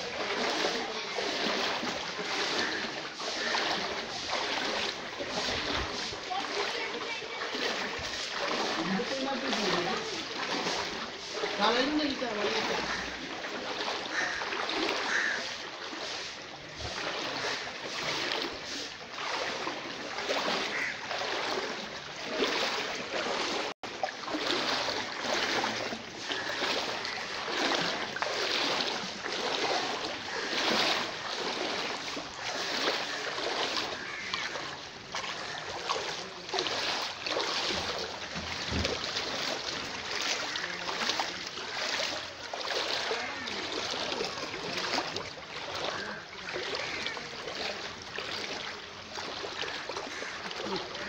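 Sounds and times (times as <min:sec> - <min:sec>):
water sloshing around wading legs: 0:00.0 - 0:51.0.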